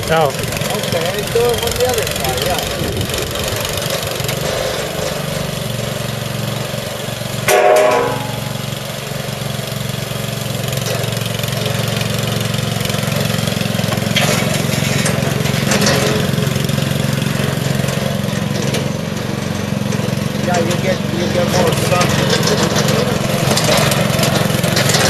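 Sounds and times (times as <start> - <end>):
small petrol engine idling: 0.0 - 25.0.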